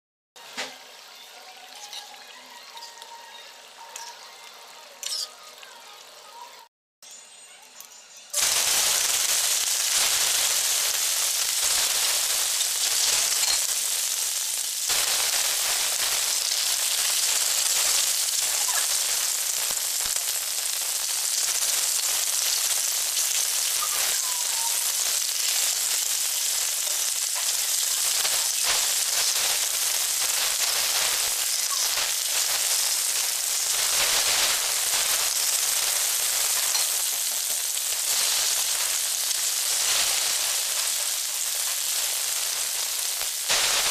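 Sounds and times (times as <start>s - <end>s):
fish sizzling in hot oil: 0.4s - 6.2s, 7.1s - 43.9s.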